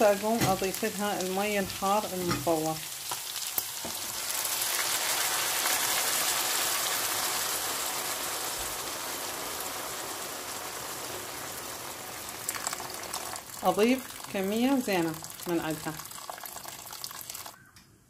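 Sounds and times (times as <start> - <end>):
water poured into sizzling pan: 0.0 - 17.6.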